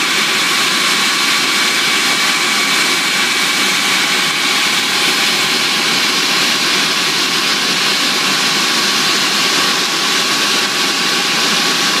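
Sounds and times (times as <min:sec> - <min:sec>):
jet engines running with whine: 0:00.0 - 0:12.0.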